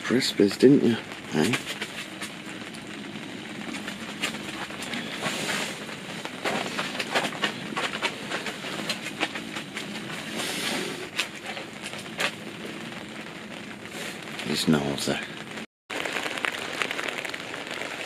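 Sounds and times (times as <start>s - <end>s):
rain pattering on tent: 0.0s - 18.0s
plastic tarp crinkling under paws: 0.4s - 18.0s.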